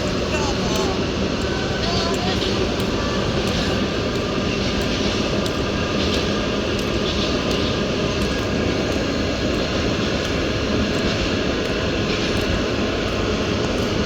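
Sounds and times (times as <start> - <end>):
faint steady tones: 0.0 - 14.0
train running noise: 0.0 - 14.0.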